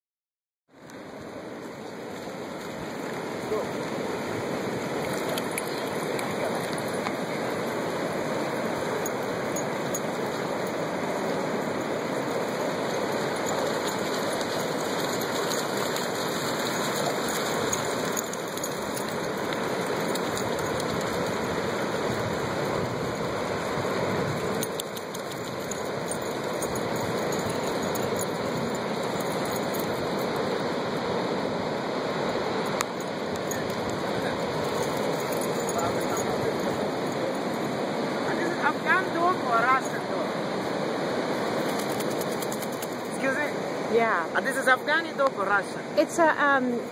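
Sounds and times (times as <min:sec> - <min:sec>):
ocean surf breaking: 0:02.7 - 0:46.0.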